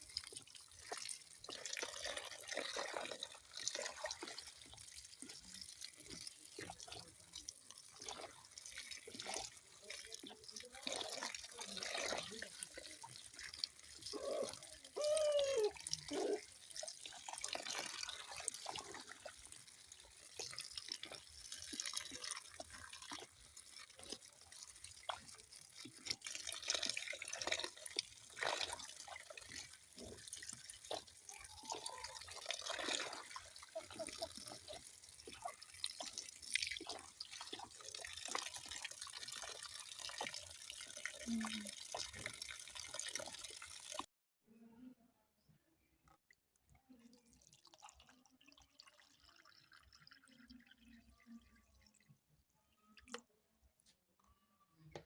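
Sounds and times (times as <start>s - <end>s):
water dripping and splashing: 0.0s - 44.1s.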